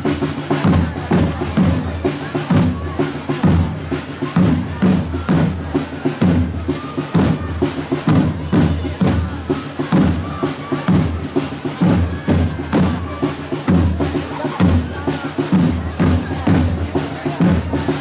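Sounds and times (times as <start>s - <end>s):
crowd chatter: 0.0s - 18.0s
marching drums: 0.0s - 18.0s.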